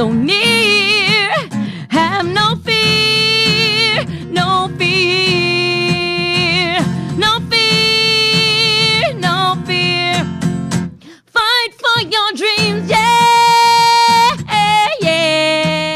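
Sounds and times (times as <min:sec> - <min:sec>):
woman singing with vibrato: 0:00.0 - 0:10.3, 0:11.2 - 0:15.9
strummed acoustic guitar: 0:00.0 - 0:15.9.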